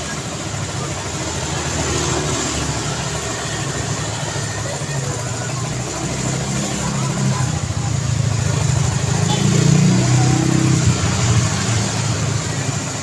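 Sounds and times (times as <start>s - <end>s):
vehicle engines running: 0.0s - 13.0s
vehicle passing close: 0.0s - 13.0s.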